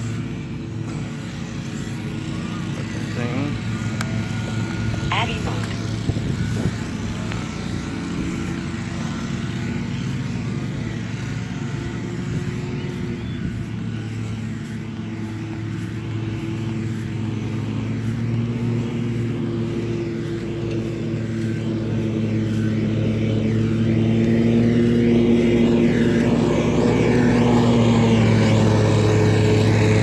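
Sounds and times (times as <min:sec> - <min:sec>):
drone propellers buzzing: 0:00.0 - 0:30.0.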